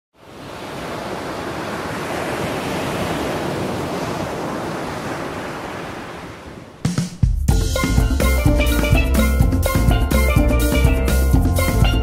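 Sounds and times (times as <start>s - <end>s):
ocean waves and surf: 0.1s - 12.0s.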